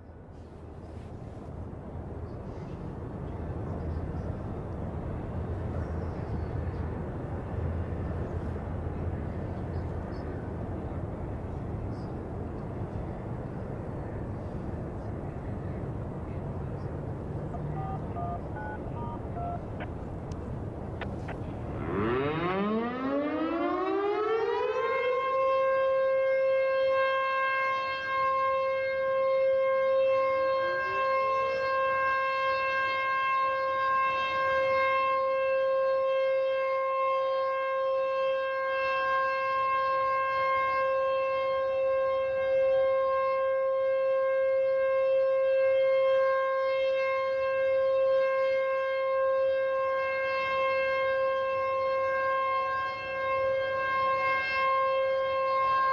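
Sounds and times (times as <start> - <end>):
outdoor warning siren: 3.5 - 55.9.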